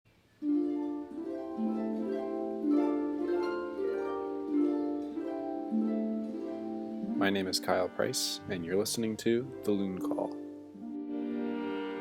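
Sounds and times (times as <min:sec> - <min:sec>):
harp music: 0:00.4 - 0:12.0.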